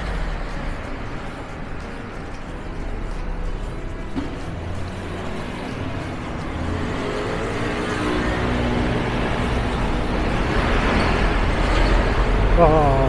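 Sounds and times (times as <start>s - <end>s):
street traffic: 0.0s - 13.0s
vehicle engine running close by: 0.0s - 13.0s.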